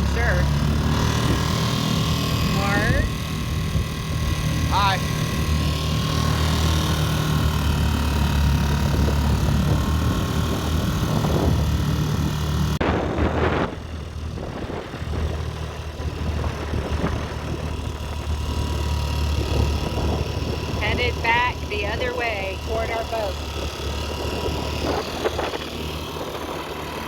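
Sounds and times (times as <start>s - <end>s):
outboard motor drone: 0.0s - 27.0s.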